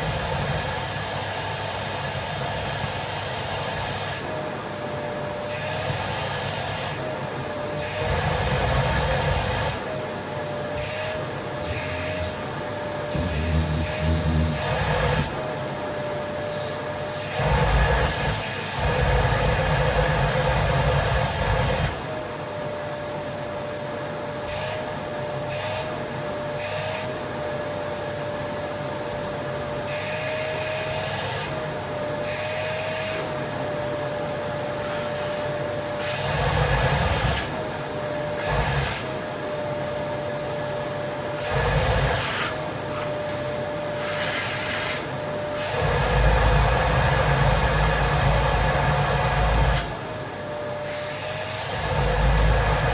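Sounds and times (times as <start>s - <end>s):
vacuum cleaner whining: 0.0s - 52.9s.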